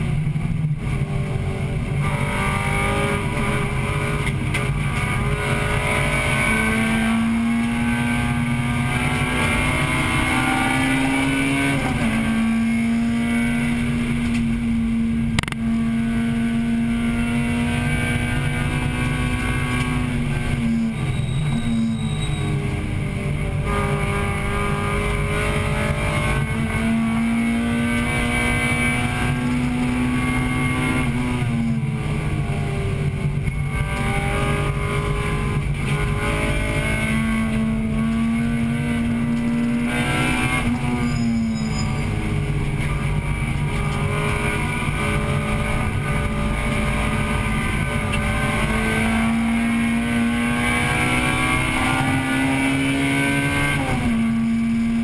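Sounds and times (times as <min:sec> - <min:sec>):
car engine under load: 0:00.0 - 0:55.0
wind and road noise: 0:00.0 - 0:55.0.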